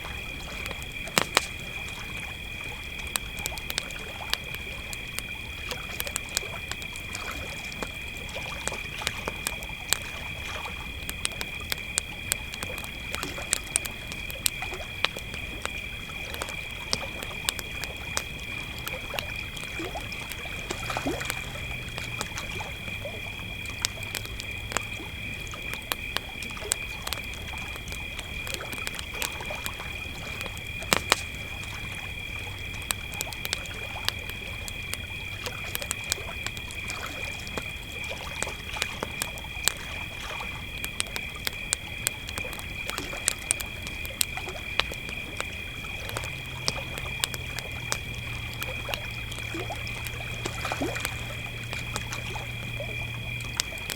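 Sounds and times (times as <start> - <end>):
campfire crackling and popping: 0.0 - 53.9
crickets chirring: 0.0 - 53.9
water lapping softly: 0.0 - 53.9.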